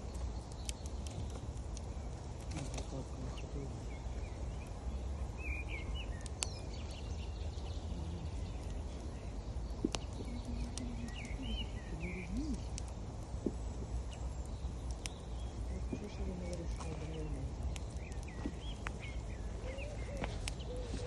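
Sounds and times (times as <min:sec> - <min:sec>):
campfire crackling pops: 0:00.0 - 0:21.0
bird chirps: 0:02.6 - 0:21.0.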